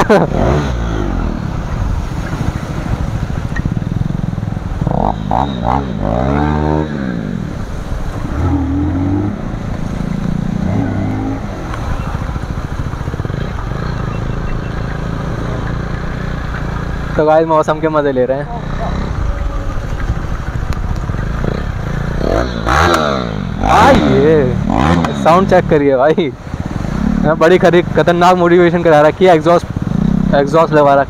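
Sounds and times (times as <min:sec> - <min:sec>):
motorcycle engine revving: 0:00.0 - 0:31.0
wind and water hiss: 0:00.2 - 0:31.0.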